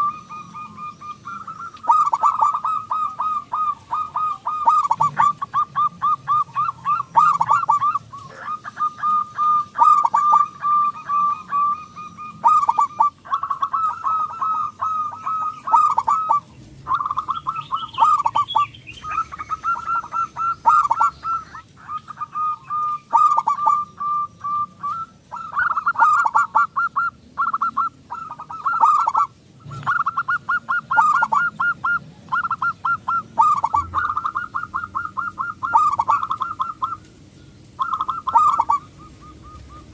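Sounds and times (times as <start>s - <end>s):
doves cooing trills: 0.0s - 39.9s.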